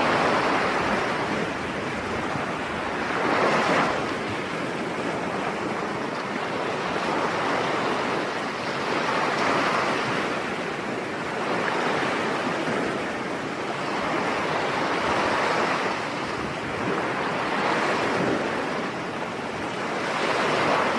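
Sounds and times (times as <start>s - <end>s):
ocean surf breaking: 0.0s - 20.9s.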